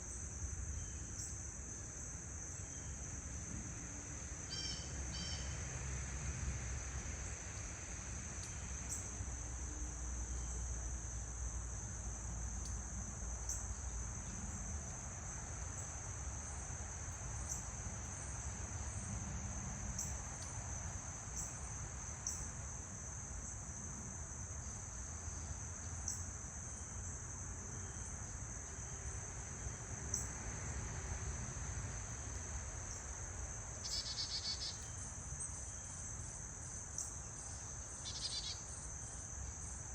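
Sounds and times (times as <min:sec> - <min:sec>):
insects trilling: 0:04.4 - 0:05.8, 0:07.5 - 0:30.4, 0:31.8 - 0:39.9.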